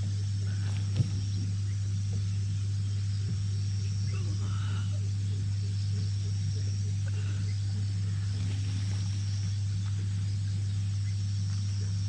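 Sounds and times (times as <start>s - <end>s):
crickets trilling: 0.0s - 12.0s
steady low hum: 0.0s - 12.0s.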